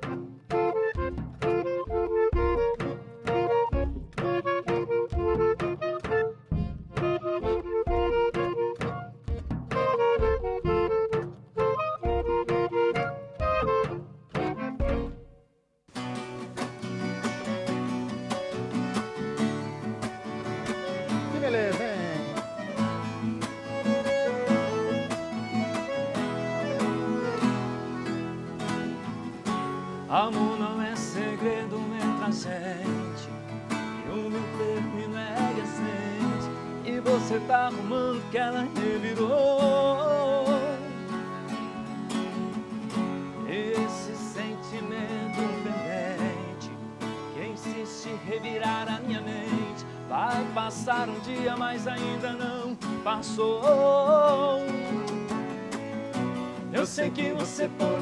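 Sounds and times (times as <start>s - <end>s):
piano accordion: 0.0s - 15.2s, 16.0s - 47.8s, 53.2s - 58.0s
acoustic guitars strumming: 0.0s - 58.0s.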